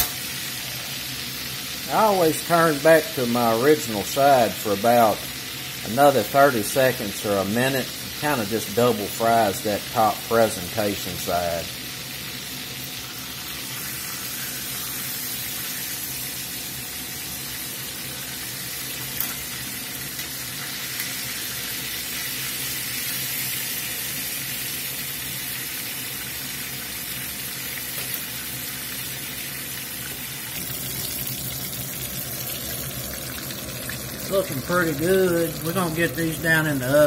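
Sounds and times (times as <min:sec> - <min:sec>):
meat sizzling in hot oil: 0:00.0 - 0:37.0.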